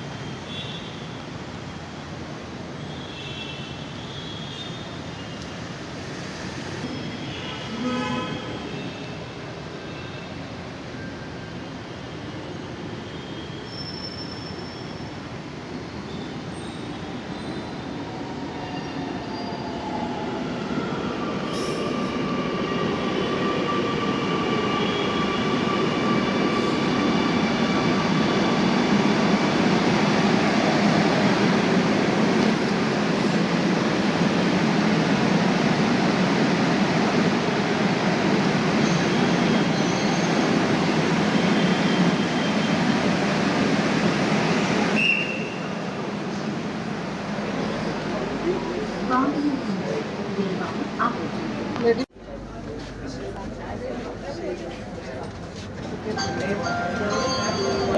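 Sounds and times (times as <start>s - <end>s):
train running along track: 4.9s - 57.9s.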